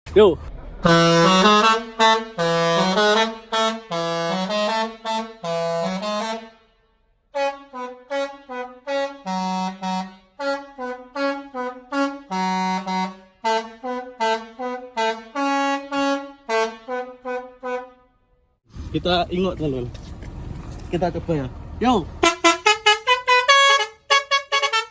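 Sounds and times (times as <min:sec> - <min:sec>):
musical air horn playing a tune: 0:00.8 - 0:18.4, 0:22.2 - 0:24.9.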